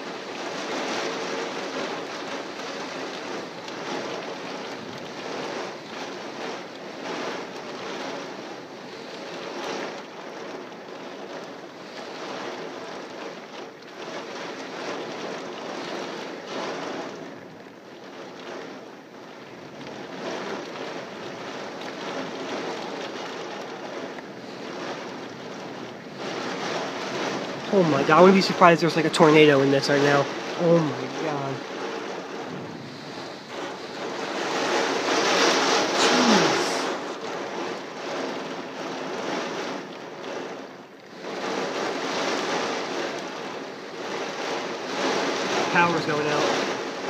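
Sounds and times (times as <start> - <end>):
heavy rain: 0.0 - 47.0
strong wind: 0.0 - 47.0.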